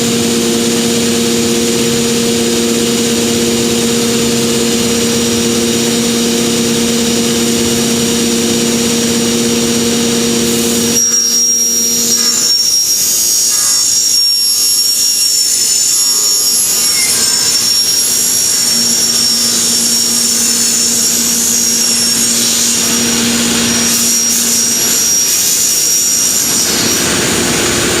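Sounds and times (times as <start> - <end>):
cutting machine hum: 0.0 - 28.0
high wavering machine whine: 0.0 - 28.0.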